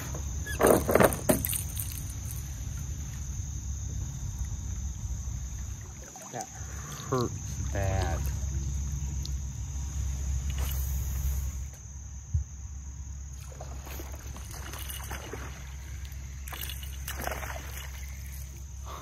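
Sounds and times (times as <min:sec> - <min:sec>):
crickets trilling: 0:00.0 - 0:19.0
low outdoor rumble: 0:00.0 - 0:19.0.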